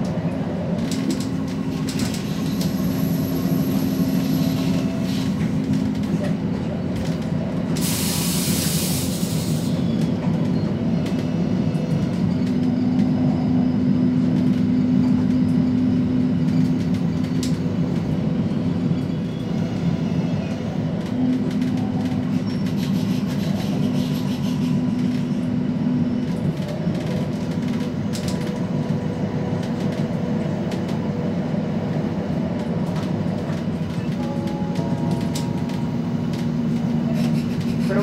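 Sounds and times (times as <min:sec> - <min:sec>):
railcar hum and rumble: 0:00.0 - 0:38.0.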